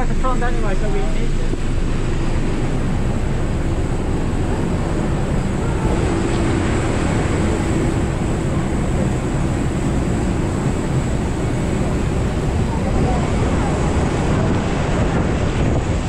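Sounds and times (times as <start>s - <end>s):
high steady whine: 0.0s - 16.0s
jet airliner low roar: 0.0s - 16.0s.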